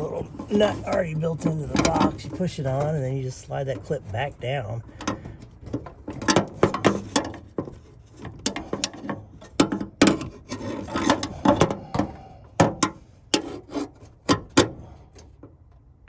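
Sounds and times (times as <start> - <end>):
clicks knocks and scraping: 0.0 - 15.9.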